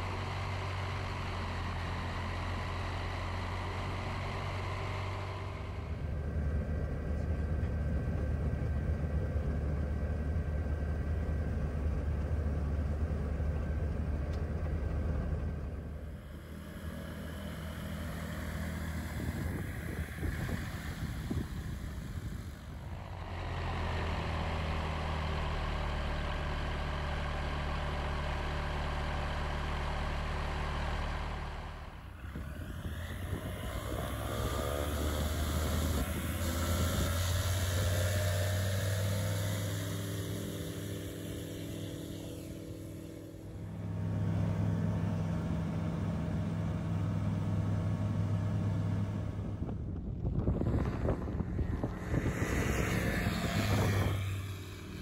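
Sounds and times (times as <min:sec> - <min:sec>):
light airplane engine and propeller: 0:00.0 - 0:55.0.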